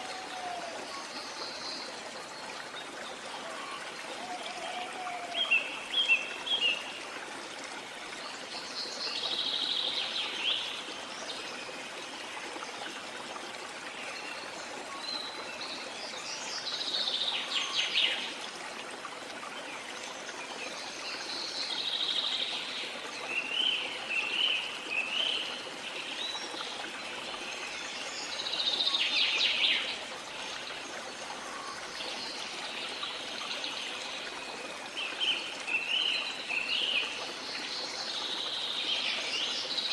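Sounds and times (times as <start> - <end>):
falling water: 0.0 - 39.9.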